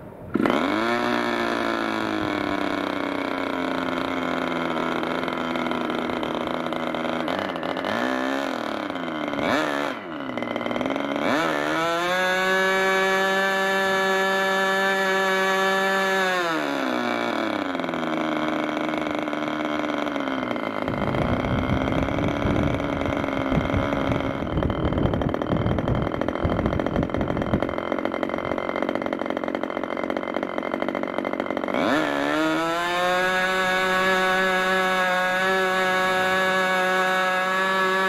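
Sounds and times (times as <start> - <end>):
model glow engine running: 0.4 - 38.0.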